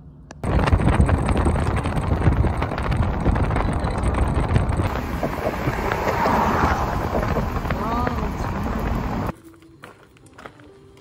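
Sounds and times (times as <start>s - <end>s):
wind buffeting microphone: 0.4s - 9.3s.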